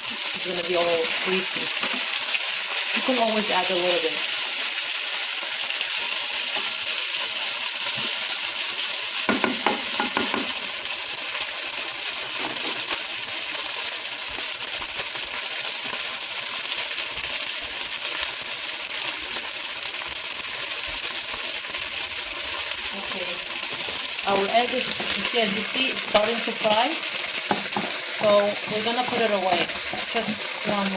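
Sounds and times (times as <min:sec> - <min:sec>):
food sizzling in hot oil: 0:00.0 - 0:30.9.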